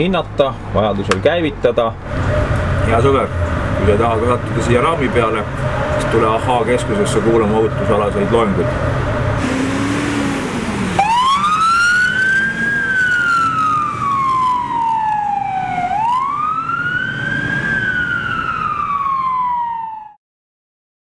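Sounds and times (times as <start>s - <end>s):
fire engine siren wailing: 2.1s - 20.2s.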